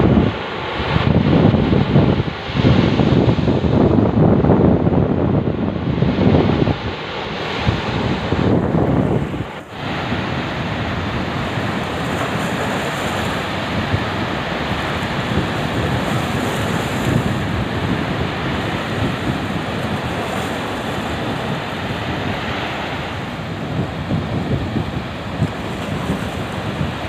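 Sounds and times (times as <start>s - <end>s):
rough surf breaking: 0.0s - 27.0s
wind buffeting microphone: 0.0s - 27.0s.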